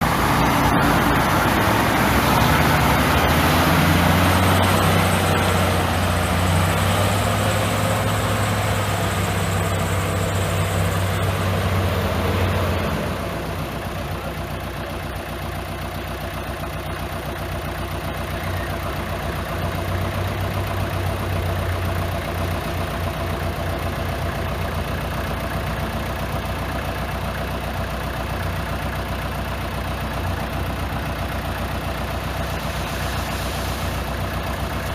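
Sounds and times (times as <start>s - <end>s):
heavy diesel engines running: 0.0s - 34.9s.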